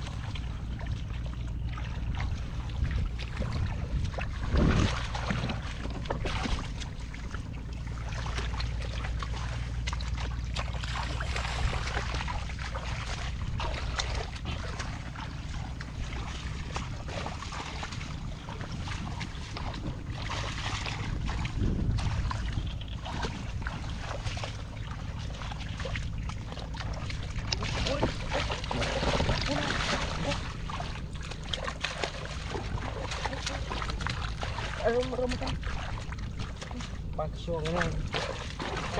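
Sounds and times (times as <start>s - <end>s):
wind rumbling on microphone: 0.0s - 38.9s
hands splashing in water: 3.0s - 38.9s.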